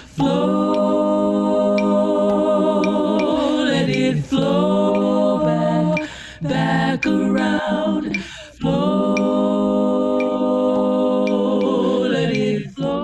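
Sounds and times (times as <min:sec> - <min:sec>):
a cappella singing: 0:00.0 - 0:13.0.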